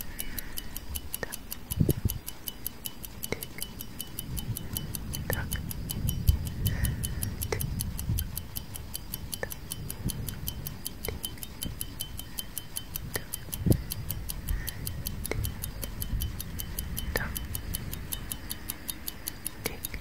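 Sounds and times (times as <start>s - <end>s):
low rumble: 0.0s - 18.7s
clock ticking fast: 0.0s - 20.0s.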